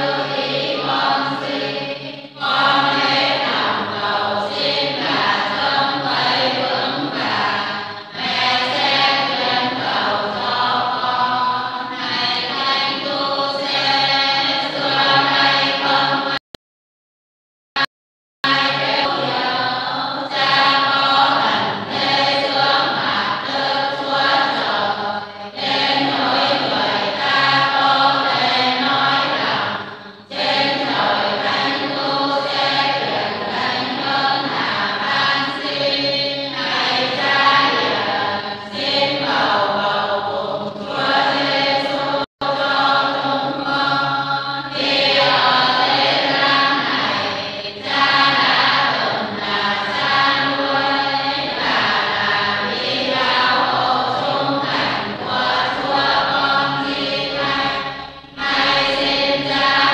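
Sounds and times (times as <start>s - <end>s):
group chanting in unison: 0.0s - 16.4s, 18.4s - 59.9s.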